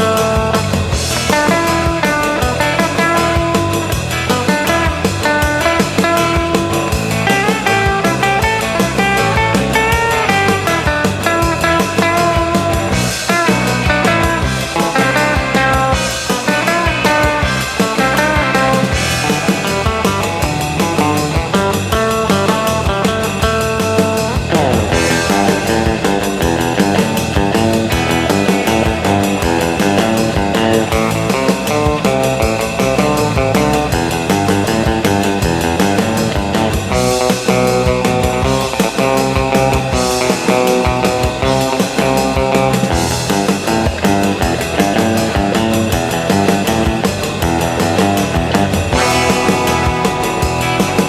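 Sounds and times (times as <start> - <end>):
rock backing track drums and bass: 0.0 - 51.0
twangy electric guitar: 0.0 - 51.0.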